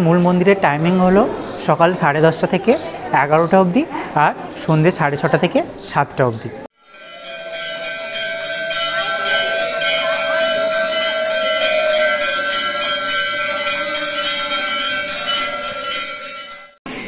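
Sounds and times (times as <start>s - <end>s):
temple bells ringing fast: 0.0s - 17.0s.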